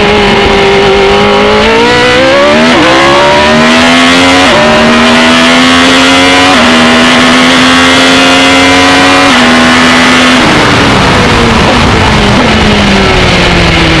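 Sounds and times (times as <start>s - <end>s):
race car engine: 0.0s - 14.0s.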